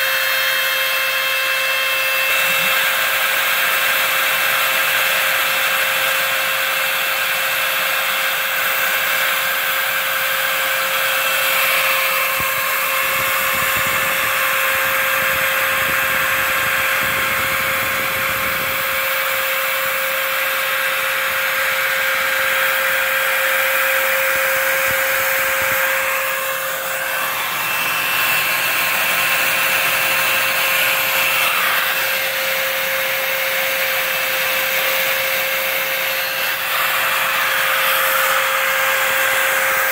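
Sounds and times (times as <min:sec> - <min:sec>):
router spindle whine milling foam: 0:00.0 - 0:39.9.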